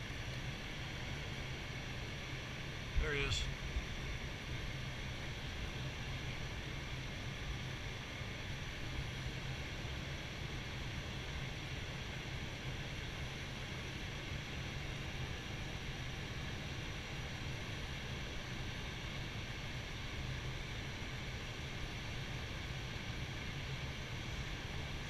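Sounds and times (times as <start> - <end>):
air-conditioning hiss: 0.0 - 25.0
low steady hum: 0.0 - 25.0.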